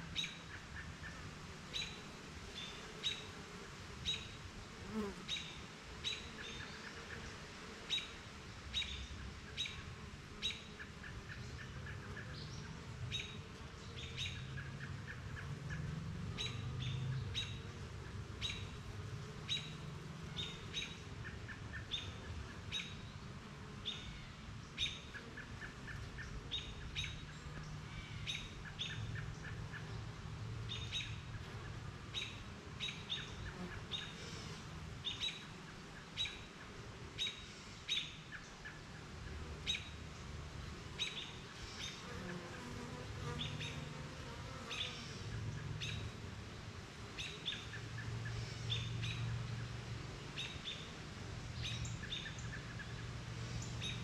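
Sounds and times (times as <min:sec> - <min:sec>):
honeybees humming: 0:00.0 - 0:37.6, 0:38.8 - 0:46.4
songbirds chirping: 0:00.0 - 0:54.0.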